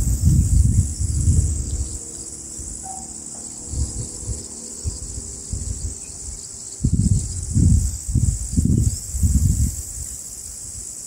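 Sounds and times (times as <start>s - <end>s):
low rumbles: 0.0s - 9.8s
crickets chirring: 0.0s - 11.0s.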